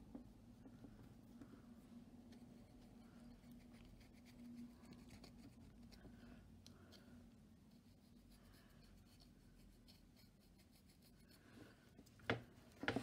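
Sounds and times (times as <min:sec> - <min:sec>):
paintbrush strokes: 0:00.0 - 0:13.0.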